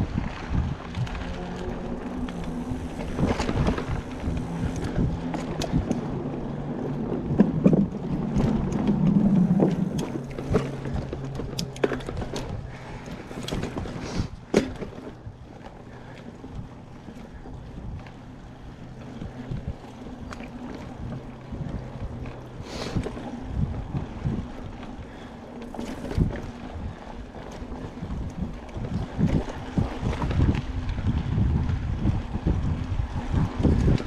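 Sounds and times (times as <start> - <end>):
bike rattles and clicks: 0.0 - 34.0
steady low hum: 0.0 - 34.0.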